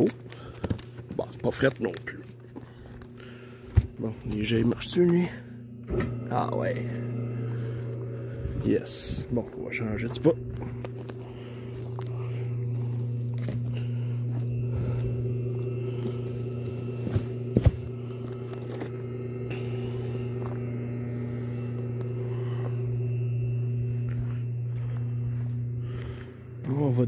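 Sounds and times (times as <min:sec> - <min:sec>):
pump motor humming: 0:00.0 - 0:27.0.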